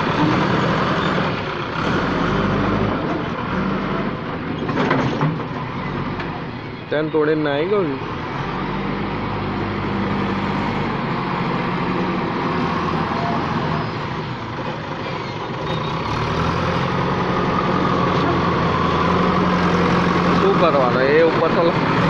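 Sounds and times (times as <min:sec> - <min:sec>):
backhoe loader diesel engine: 0:00.0 - 0:22.0.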